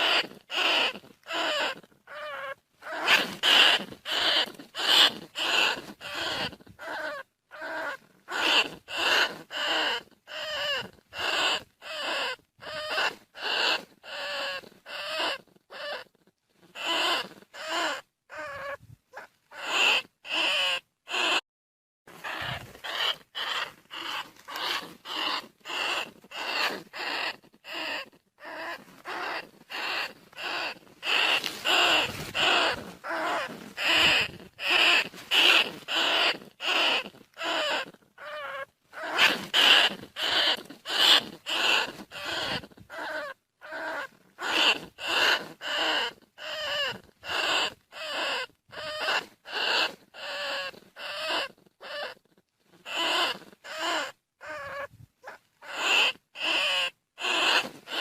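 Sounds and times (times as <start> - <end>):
rat squeaking: 0.0 - 21.4, 22.1 - 58.0.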